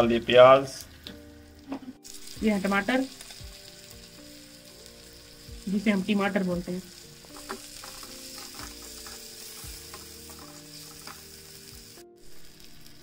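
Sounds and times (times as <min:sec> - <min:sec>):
vegetables sizzling in butter: 0:00.0 - 0:13.0.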